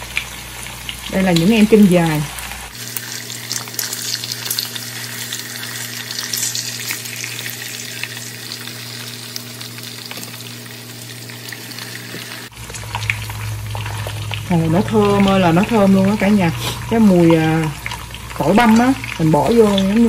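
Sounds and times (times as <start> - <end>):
quails sizzling in oil: 0.0 - 20.0.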